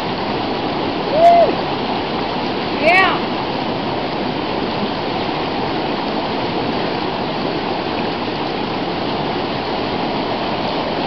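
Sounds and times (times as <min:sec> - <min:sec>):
river rushing through rapids: 0:00.0 - 0:11.0.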